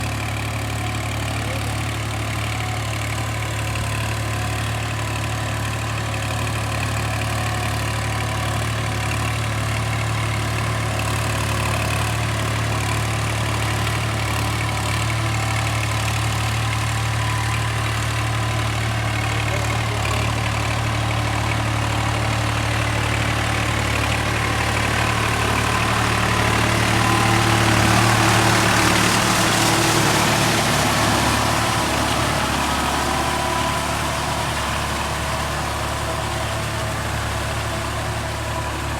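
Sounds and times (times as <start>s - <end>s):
tractor diesel engine humming: 0.0s - 38.9s.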